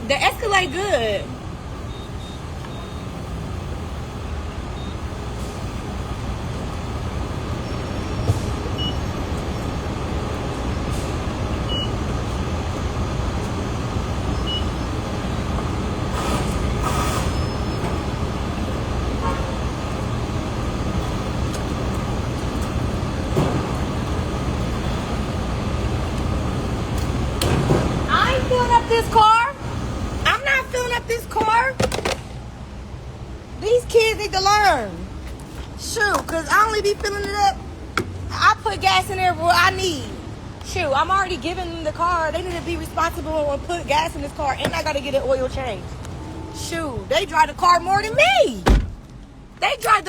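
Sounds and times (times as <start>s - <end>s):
car cabin road noise: 0.0s - 50.0s.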